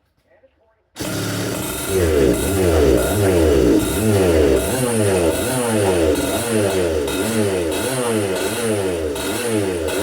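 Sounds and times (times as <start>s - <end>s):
kart engine revving: 1.0s - 10.0s.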